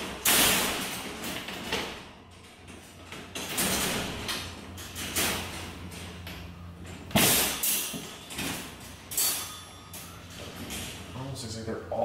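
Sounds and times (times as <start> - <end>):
wire crate panels rattling: 0.0 - 11.4.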